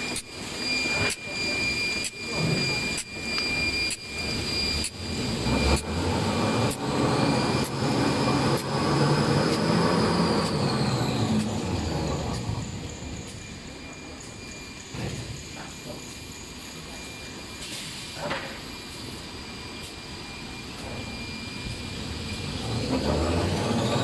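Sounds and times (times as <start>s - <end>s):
machine high whine: 0.0s - 24.0s.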